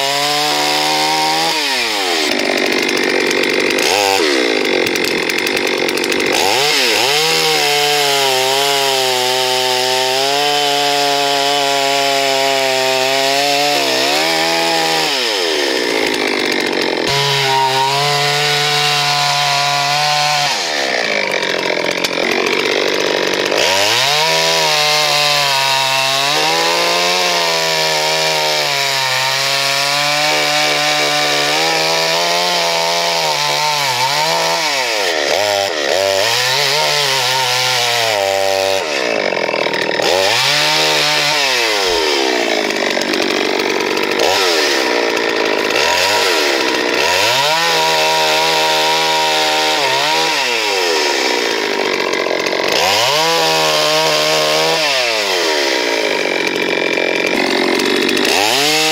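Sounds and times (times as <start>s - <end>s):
chainsaw cutting logs: 0.0s - 58.9s.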